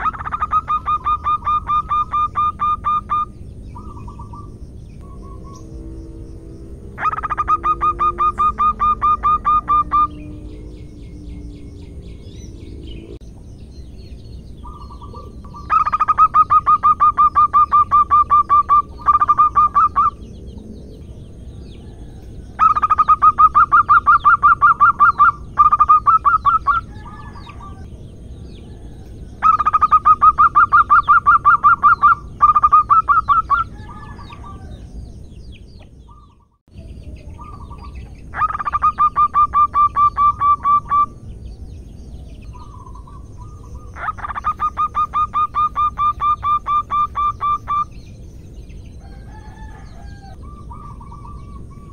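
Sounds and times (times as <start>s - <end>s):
dove cooing: 0.0s - 13.2s, 14.6s - 21.2s, 21.8s - 27.9s, 29.4s - 34.7s, 37.4s - 41.1s, 42.6s - 47.9s, 49.3s - 51.9s.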